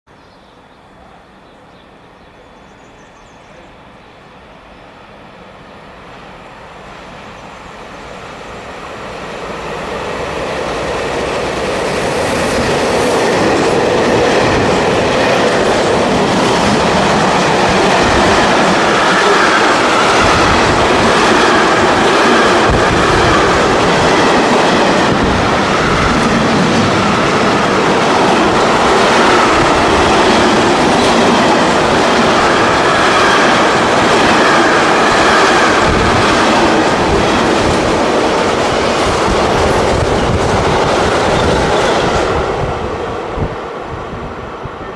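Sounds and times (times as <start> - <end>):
electric locomotive passing: 0.3 - 44.9.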